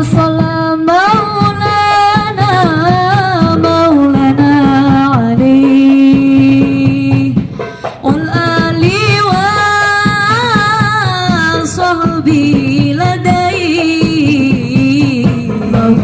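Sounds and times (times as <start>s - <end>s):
drum accompaniment: 0.0s - 16.0s
woman singing devotional song: 0.0s - 16.0s.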